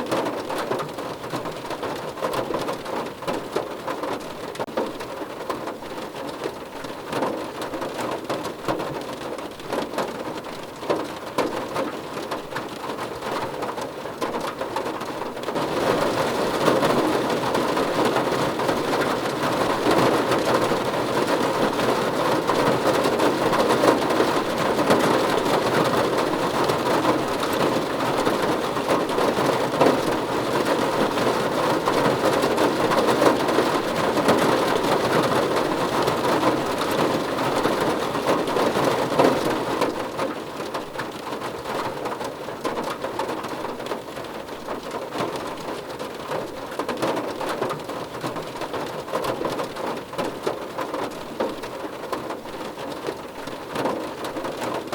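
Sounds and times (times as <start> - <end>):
rain pattering on a car roof: 0.0 - 54.9.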